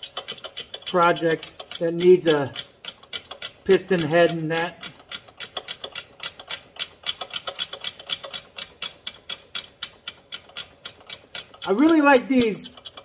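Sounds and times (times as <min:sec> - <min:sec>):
ratchet wrench clicking: 0:00.0 - 0:13.0.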